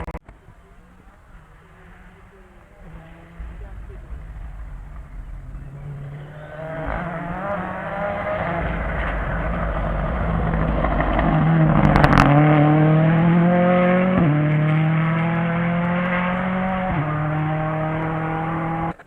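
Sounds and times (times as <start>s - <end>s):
rally car engine accelerating past: 0.0s - 19.0s.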